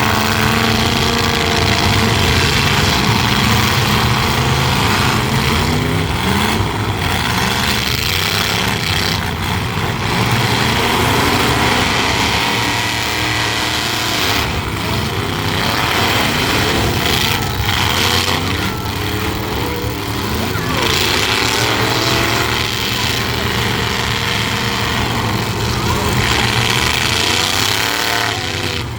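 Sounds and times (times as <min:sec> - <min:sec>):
truck engines revving: 0:00.0 - 0:28.9.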